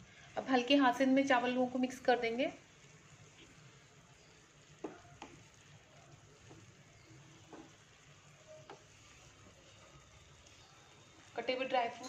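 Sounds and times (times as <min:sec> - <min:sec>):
faint hiss from pan: 0:00.0 - 0:12.0
spoon stirring rice in pan: 0:02.3 - 0:12.0.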